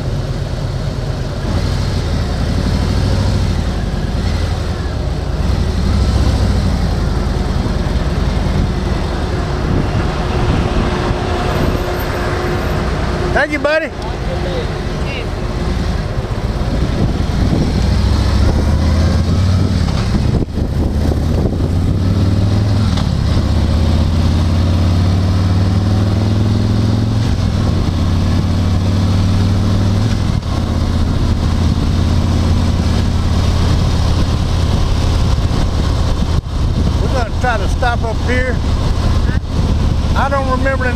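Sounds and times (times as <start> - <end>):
vehicle engine and road noise: 0.0 - 40.9.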